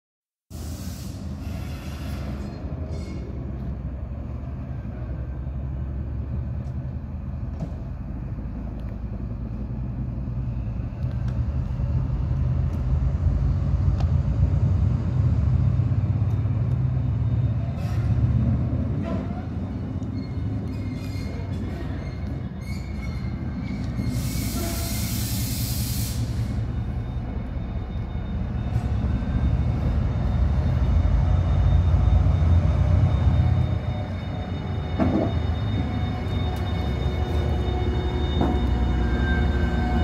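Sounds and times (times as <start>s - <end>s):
diesel locomotive engines rumbling: 0.5s - 40.0s.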